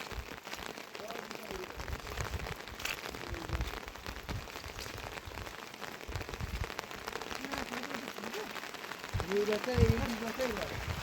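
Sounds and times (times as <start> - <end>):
heavy rain patter: 0.0 - 11.0.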